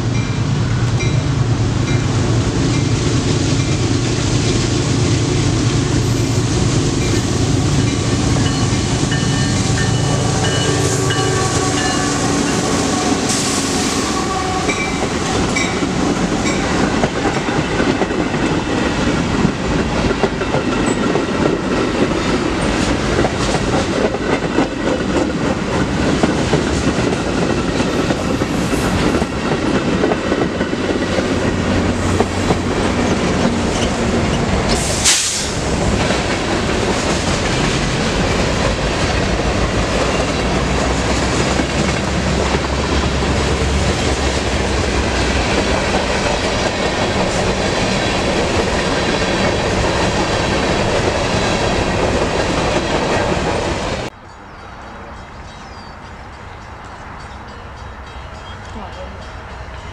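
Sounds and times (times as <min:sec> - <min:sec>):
train wheels clattering on rails: 0:00.0 - 0:54.2
diesel locomotive engine drone: 0:00.0 - 0:59.9.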